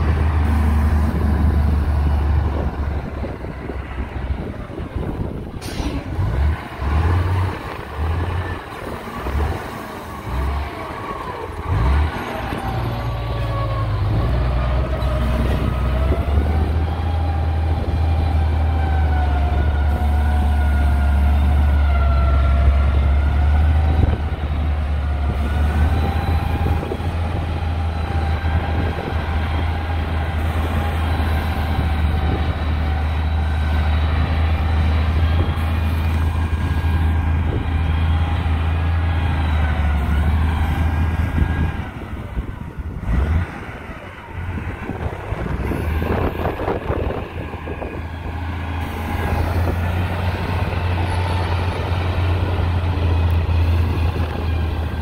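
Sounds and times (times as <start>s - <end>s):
diesel engine droning with whine: 0.0s - 55.0s.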